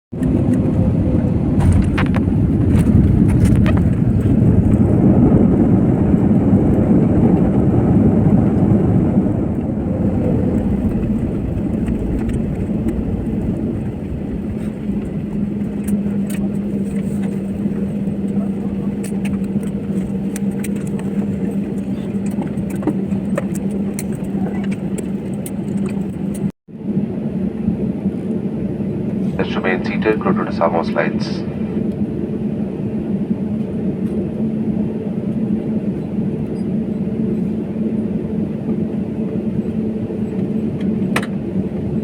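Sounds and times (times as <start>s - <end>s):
plane landing rumble: 0.1s - 42.0s
quieter low hum: 0.2s - 42.0s.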